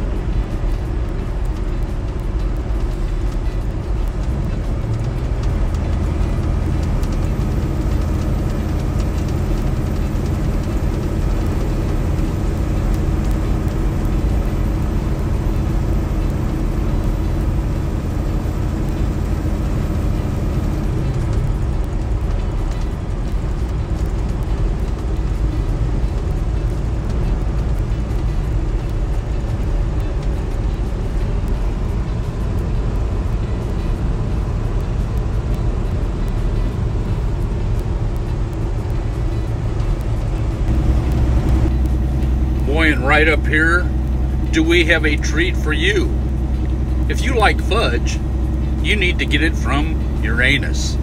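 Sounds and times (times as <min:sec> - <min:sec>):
diesel truck engine running: 0:00.0 - 0:51.0
tyre and road noise: 0:00.0 - 0:51.0.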